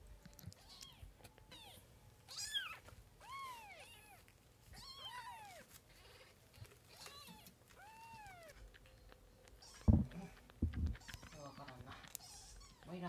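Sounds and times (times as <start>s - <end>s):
kittens mewing: 0.3s - 13.0s.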